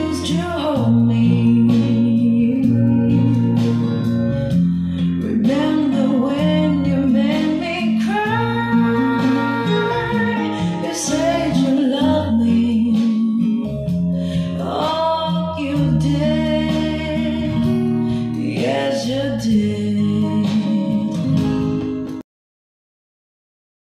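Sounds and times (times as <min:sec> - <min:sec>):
song with singing and guitar: 0:00.0 - 0:22.2.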